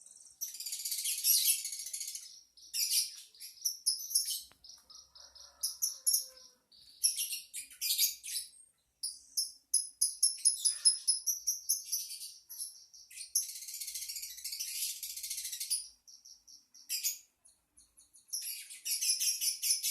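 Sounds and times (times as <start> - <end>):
lovebird singing: 0.0 - 19.9.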